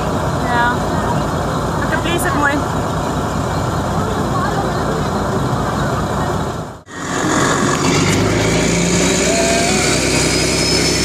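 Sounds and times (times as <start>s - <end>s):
ferry engine running: 0.0s - 11.0s.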